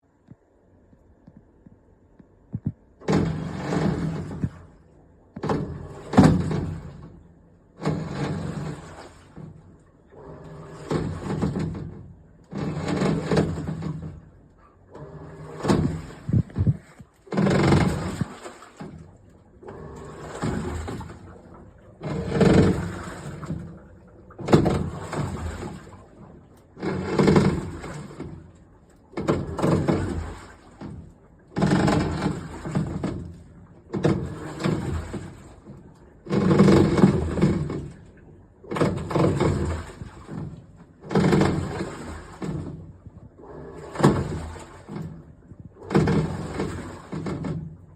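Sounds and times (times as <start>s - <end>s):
washing machine churning water: 0.0s - 47.9s.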